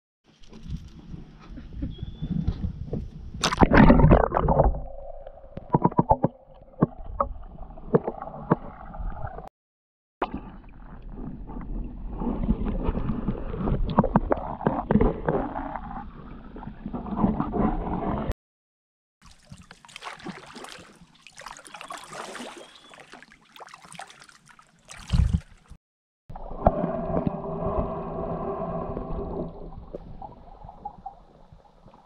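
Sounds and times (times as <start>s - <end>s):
underwater gurgling and sloshing: 0.3s - 9.5s, 10.2s - 18.3s, 19.2s - 32.0s.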